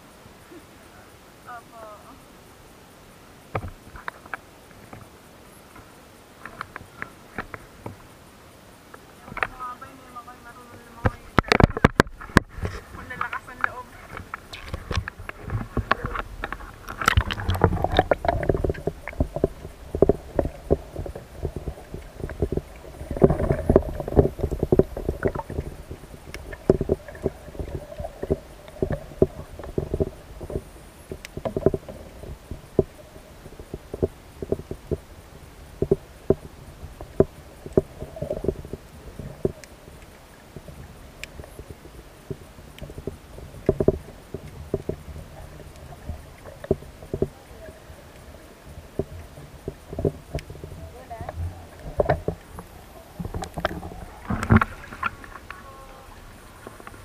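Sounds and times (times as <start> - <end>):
muffled underwater water sloshing: 0.0 - 57.0
underwater knocks and clicks: 3.5 - 5.1, 5.7 - 8.1, 8.9 - 9.7, 11.0 - 57.0.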